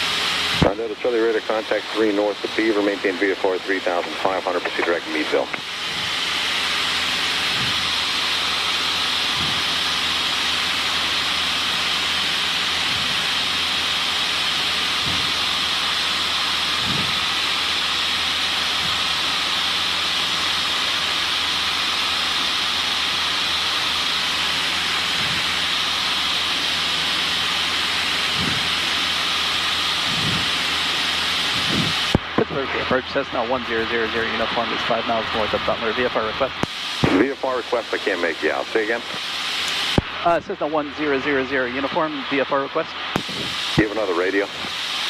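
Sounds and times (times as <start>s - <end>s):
small plane cabin hiss: 0.1s - 45.0s.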